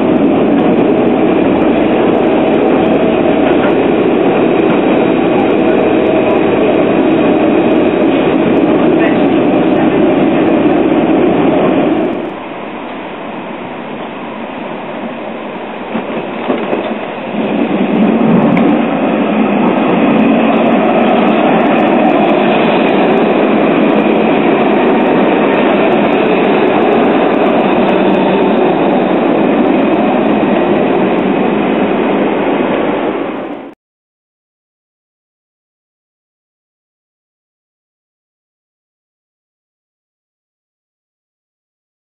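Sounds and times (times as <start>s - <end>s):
tram rumbling on rails: 0.0s - 33.8s.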